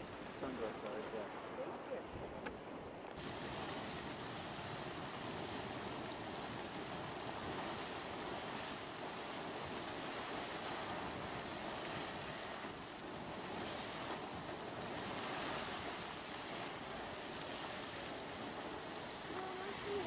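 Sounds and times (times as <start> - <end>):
geyser splashing water: 3.2 - 20.0
steam venting: 3.2 - 20.0.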